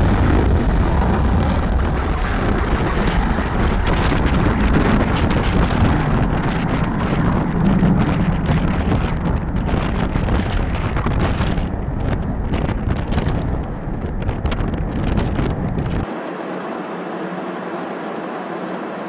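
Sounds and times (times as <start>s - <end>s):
wind buffeting microphone: 0.0s - 16.4s
jet engine roaring: 0.0s - 19.0s.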